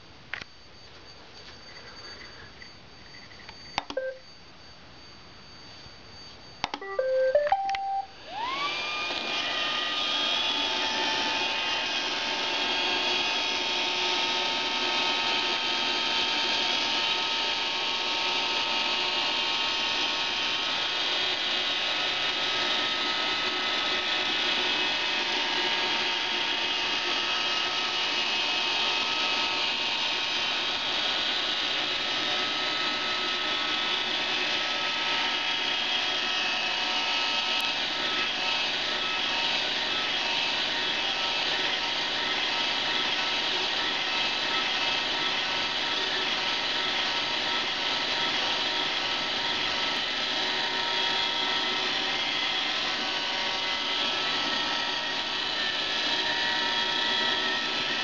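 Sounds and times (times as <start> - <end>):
robot vacuum whirring: 6.6 - 58.0.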